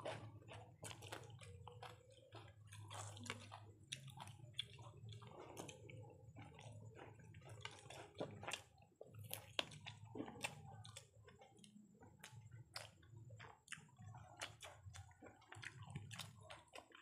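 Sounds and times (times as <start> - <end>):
chewing with wet mouth clicks: 0.0 - 17.0.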